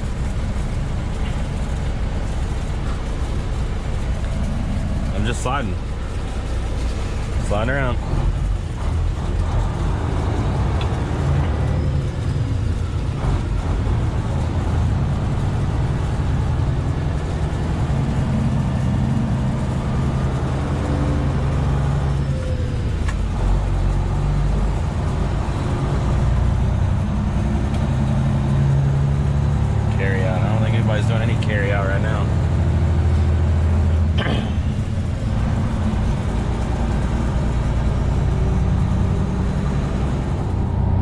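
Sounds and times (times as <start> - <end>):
truck diesel engine droning: 0.0 - 41.0.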